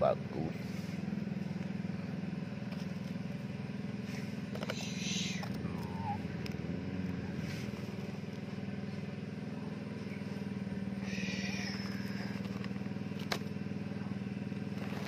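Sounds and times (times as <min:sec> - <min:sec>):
motor droning: 0:00.2 - 0:15.0.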